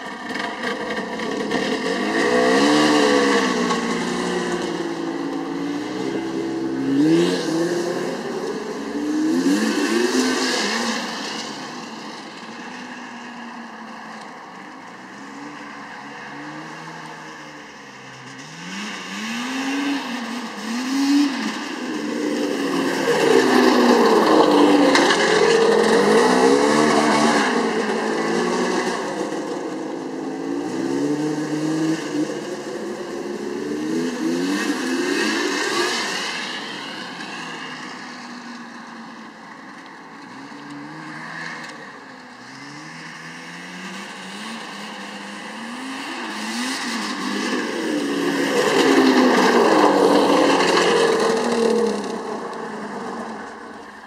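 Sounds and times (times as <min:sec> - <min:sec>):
snowmobile engine revving: 0:00.0 - 0:14.0, 0:14.6 - 0:54.0.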